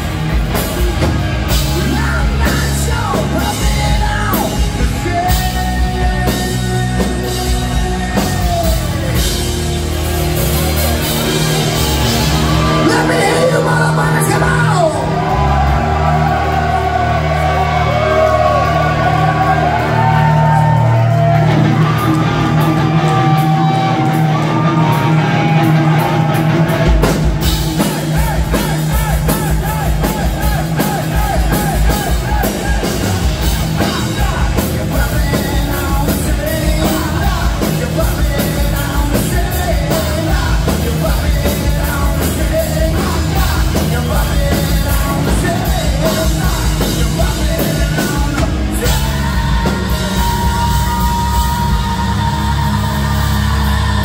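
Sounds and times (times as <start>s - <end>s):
drums: 0.0s - 54.0s
rock band playing: 0.0s - 54.0s
person singing: 1.6s - 9.6s, 12.0s - 21.1s, 27.6s - 54.0s.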